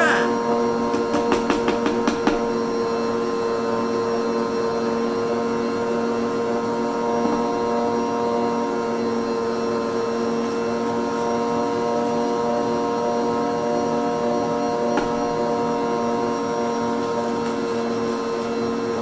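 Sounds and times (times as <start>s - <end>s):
stand mixer motor humming: 0.0s - 19.0s.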